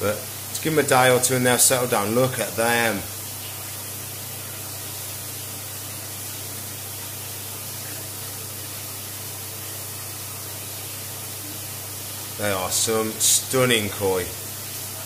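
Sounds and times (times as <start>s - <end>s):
aquarium pumps and moving water: 0.0s - 15.0s.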